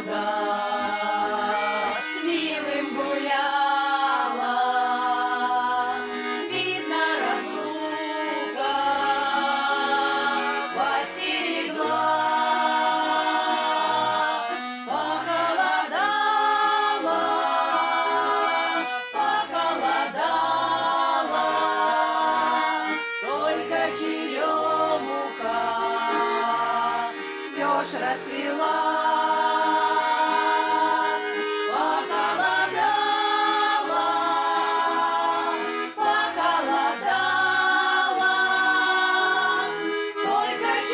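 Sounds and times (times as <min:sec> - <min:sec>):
women singing folk harmony: 0:00.0 - 0:40.9.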